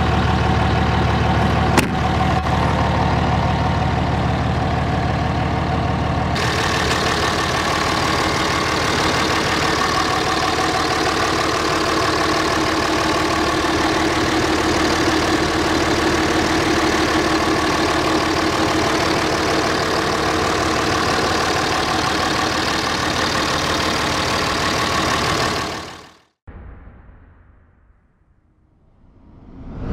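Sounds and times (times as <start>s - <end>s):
diesel engine idling: 0.0s - 26.3s.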